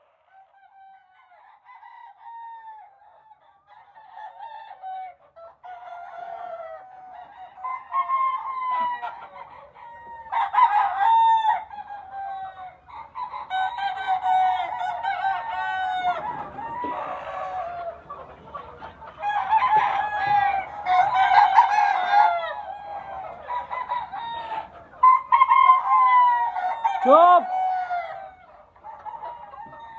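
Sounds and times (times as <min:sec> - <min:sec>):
chickens calling: 0:00.0 - 0:29.9.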